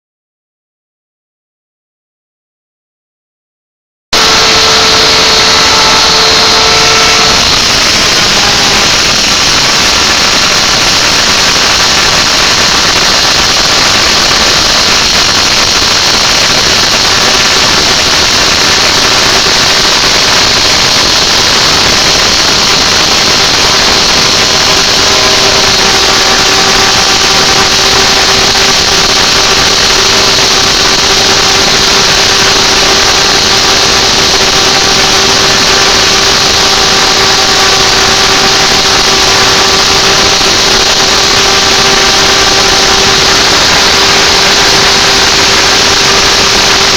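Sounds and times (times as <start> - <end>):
cnc router hissing: 4.2 - 46.9.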